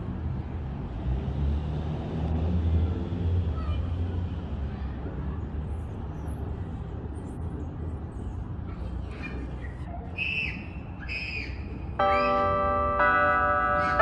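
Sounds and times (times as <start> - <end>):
low rumble of street traffic: 0.0 - 14.0.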